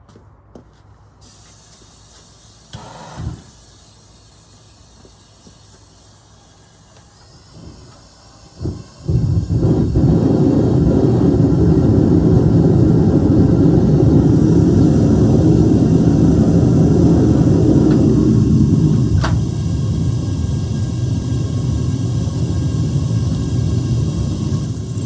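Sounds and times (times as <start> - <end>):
furnace low rumble: 3.2 - 25.0.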